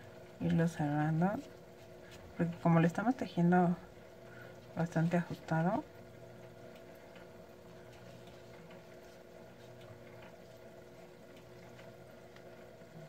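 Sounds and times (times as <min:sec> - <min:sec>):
steady faint hum: 0:00.0 - 0:13.0.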